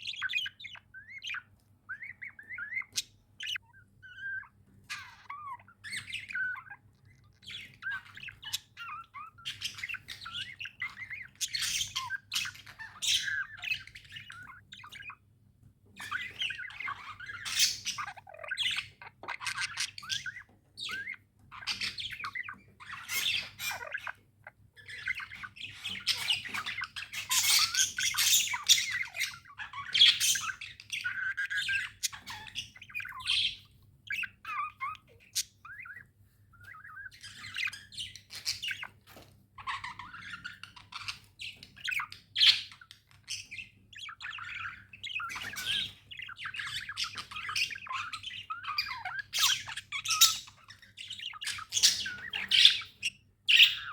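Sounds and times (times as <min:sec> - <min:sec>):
budgerigars chirping and squawking: 0:00.0 - 0:53.9.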